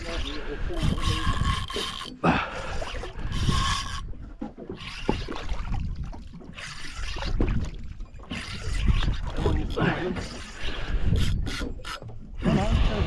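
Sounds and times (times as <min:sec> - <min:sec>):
fishing reel whirring: 0:00.0 - 0:05.6, 0:06.5 - 0:07.4, 0:08.2 - 0:12.8
low rumble of wind and water: 0:00.0 - 0:13.0.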